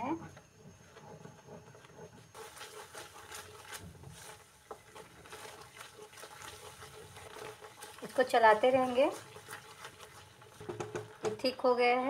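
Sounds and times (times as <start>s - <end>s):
wooden spatula scraping a pan: 0.0s - 12.0s.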